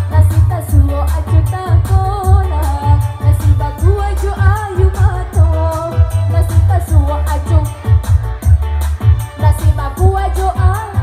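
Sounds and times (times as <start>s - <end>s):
amplified pop music: 0.0s - 11.0s
woman singing into microphone: 0.0s - 11.0s
heavy bass beat: 1.9s - 11.0s.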